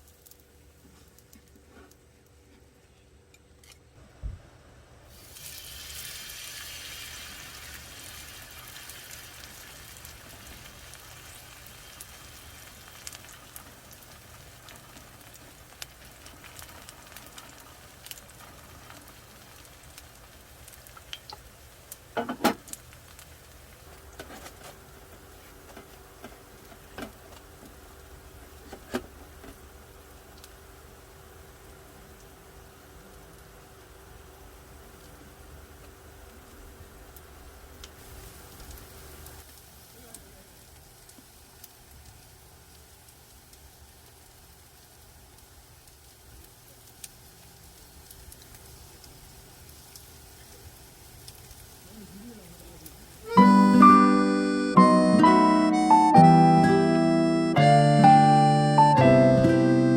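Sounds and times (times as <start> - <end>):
food sizzling in a pan: 5.0 - 55.7.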